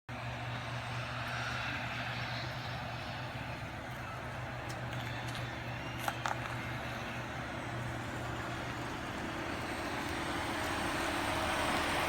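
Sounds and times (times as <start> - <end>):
car road and engine noise: 0.1 - 12.0.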